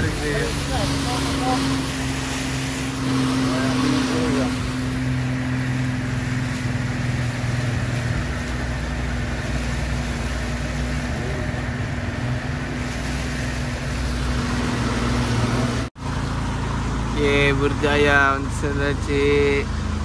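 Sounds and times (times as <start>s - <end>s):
outboard motor running: 0.0s - 20.0s
water rushing: 0.0s - 20.0s
wind: 0.0s - 20.0s.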